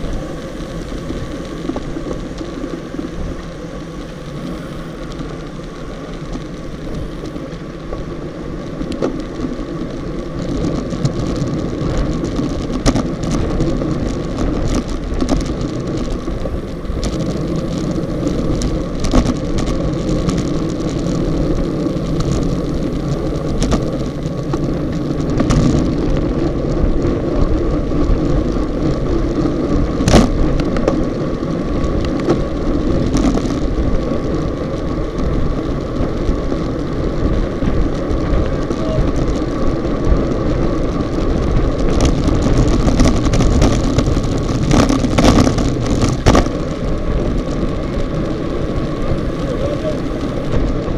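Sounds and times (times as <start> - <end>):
bike rattling over bumps: 0.0 - 50.9
tyre and road noise: 0.0 - 50.9
wind on camera microphone: 0.0 - 50.9.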